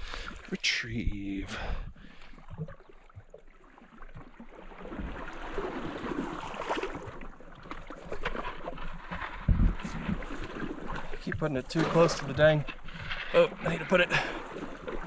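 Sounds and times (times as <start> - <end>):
river water swishing and splashing: 0.0 - 15.0.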